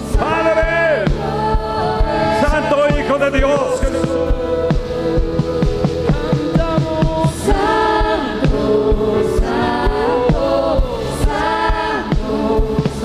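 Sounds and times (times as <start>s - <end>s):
low accompaniment with beat: 0.0s - 13.0s
voices singing worship music: 0.0s - 13.0s.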